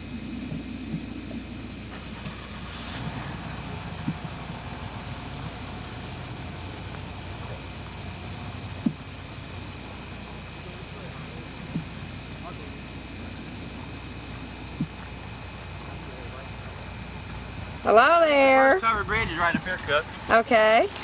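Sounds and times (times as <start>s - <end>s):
crickets and insects chirping: 0.0s - 21.0s
low outdoor rumble: 0.0s - 21.0s.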